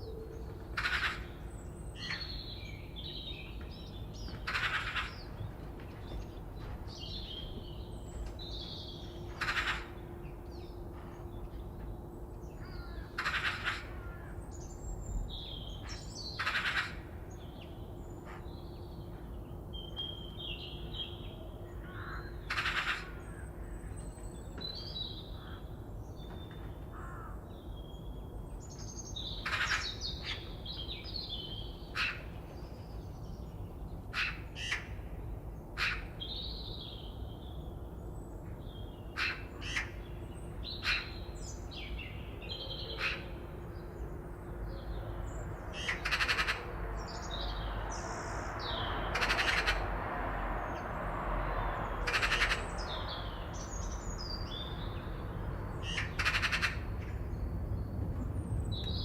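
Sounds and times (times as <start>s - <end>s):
wild birds chirping and singing: 0.0s - 59.0s.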